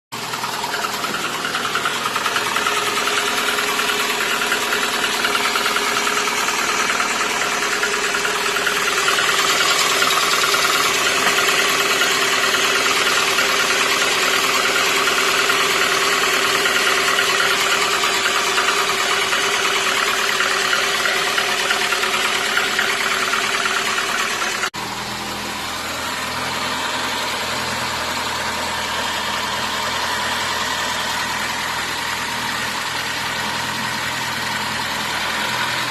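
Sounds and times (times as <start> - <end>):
petrol engine idling: 0.2 - 35.9.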